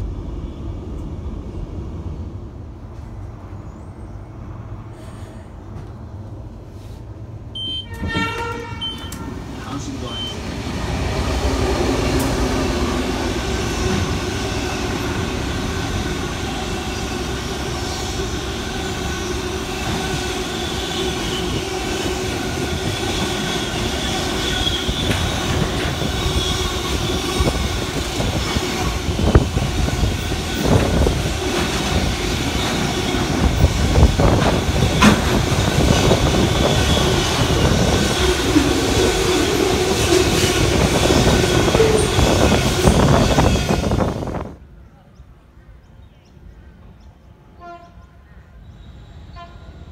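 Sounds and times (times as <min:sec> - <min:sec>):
train wheels rumbling on track: 0:00.0 - 0:44.7.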